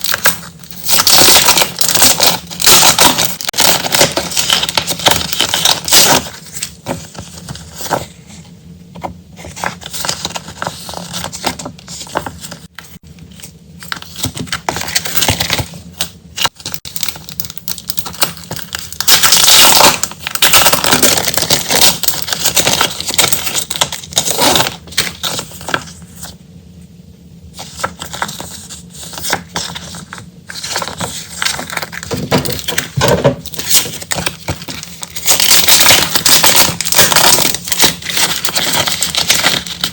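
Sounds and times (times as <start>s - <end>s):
plastic and paper crinkling: 0.0s - 8.3s, 9.4s - 26.4s, 27.6s - 39.9s.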